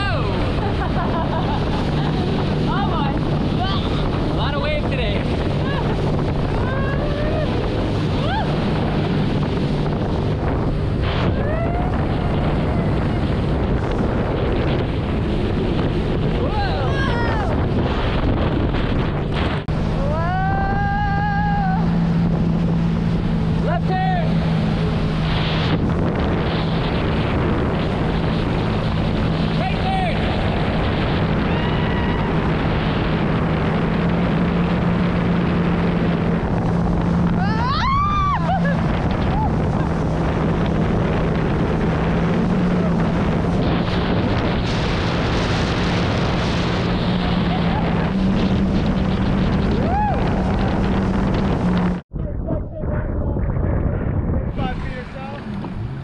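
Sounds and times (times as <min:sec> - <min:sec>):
rushing spray: 0:00.0 - 0:52.0
jet ski engine hum: 0:00.0 - 0:56.0
wind buffeting microphone: 0:00.0 - 0:56.0.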